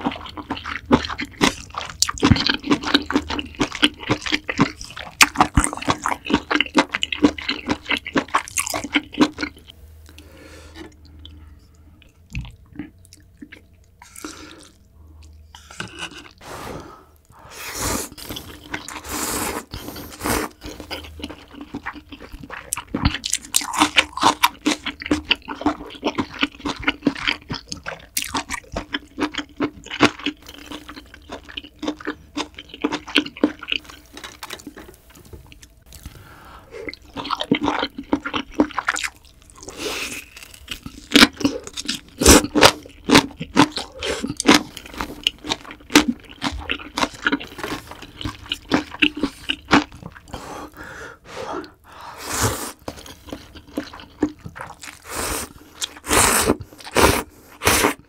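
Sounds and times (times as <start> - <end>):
wet chewing and crunching: 0.0 - 16.4, 18.1 - 51.0, 51.6 - 58.0.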